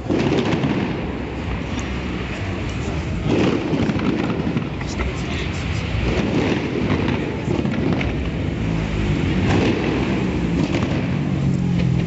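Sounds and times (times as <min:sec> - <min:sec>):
car traffic: 0:00.0 - 0:12.0
low steady engine hum: 0:00.0 - 0:12.0.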